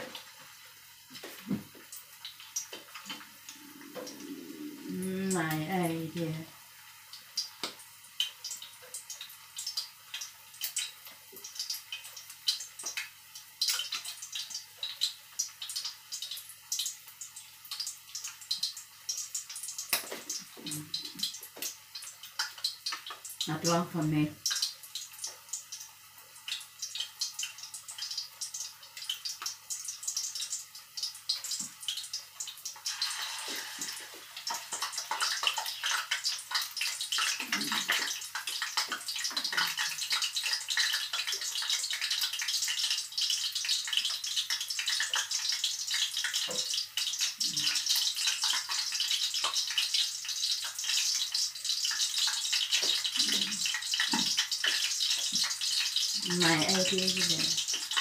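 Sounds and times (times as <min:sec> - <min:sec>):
patties sizzling in hot oil: 0:00.0 - 0:58.0.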